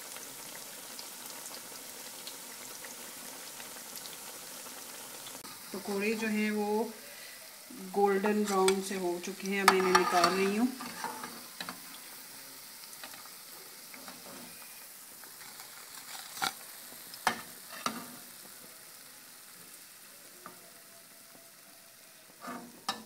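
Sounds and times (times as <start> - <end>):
oil sizzling: 0.0 - 23.0.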